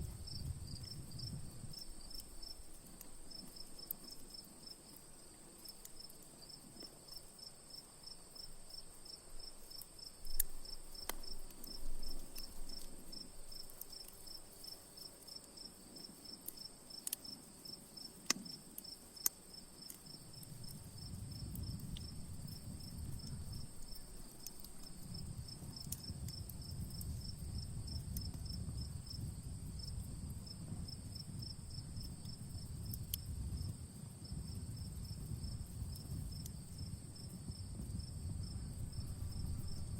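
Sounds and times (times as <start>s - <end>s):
campfire popping and crackling: 0.0s - 7.0s, 9.6s - 15.0s, 15.7s - 39.9s
crickets chirping: 0.0s - 39.9s.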